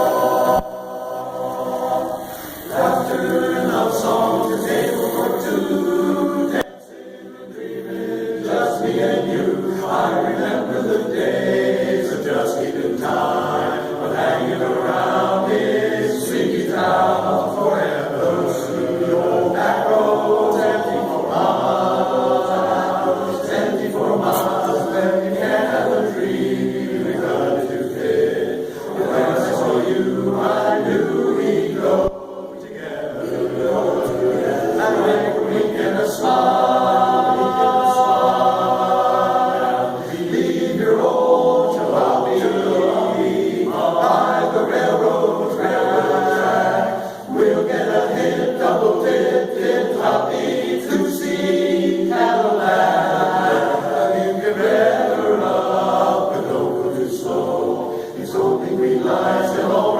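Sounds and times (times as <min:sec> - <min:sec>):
male chorus singing a cappella: 0:00.0 - 0:59.9.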